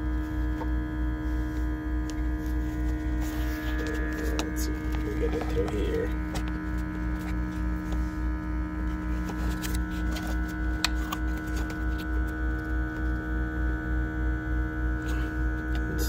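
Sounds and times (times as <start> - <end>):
throbbing machine hum: 0.0 - 16.0.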